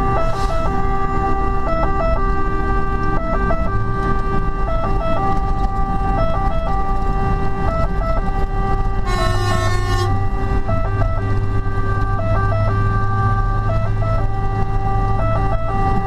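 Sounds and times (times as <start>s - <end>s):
diesel engine: 0.0s - 16.0s
fire engine siren: 0.0s - 16.0s.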